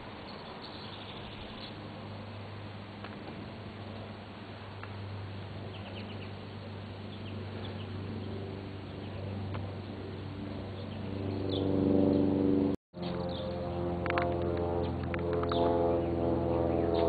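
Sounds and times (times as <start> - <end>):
droning hum: 0.0 - 17.0
steady low hum: 0.0 - 17.0.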